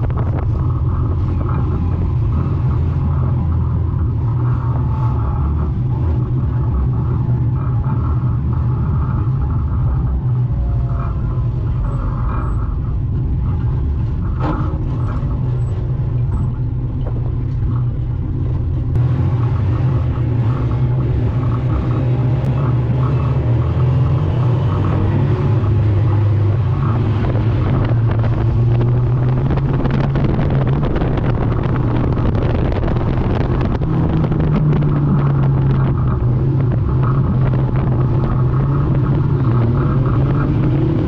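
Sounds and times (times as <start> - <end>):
car engine running at low revs: 0.0 - 41.0.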